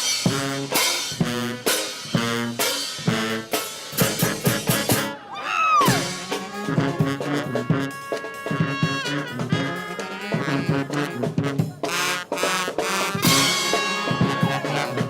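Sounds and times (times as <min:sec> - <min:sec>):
steady drum beat: 0:00.0 - 0:05.1, 0:05.8 - 0:15.0
brass horns playing a tune: 0:00.0 - 0:05.3, 0:05.9 - 0:15.0.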